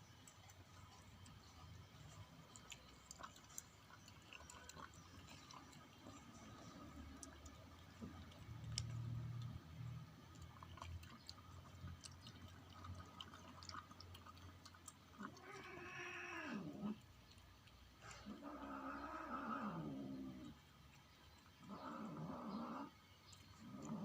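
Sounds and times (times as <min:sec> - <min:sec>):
kitten lapping milk: 0:00.0 - 0:24.0.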